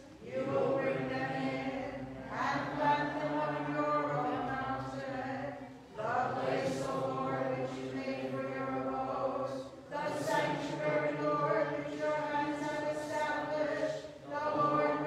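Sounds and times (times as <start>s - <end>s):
voices singing chant: 0.0s - 15.0s.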